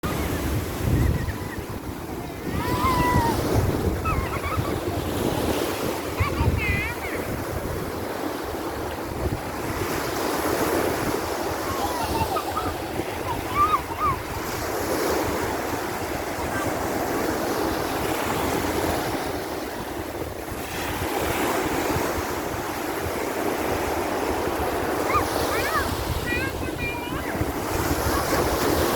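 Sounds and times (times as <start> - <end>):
sea waves washing on beach: 0.0 - 28.9
wind buffeting microphone: 0.0 - 28.9.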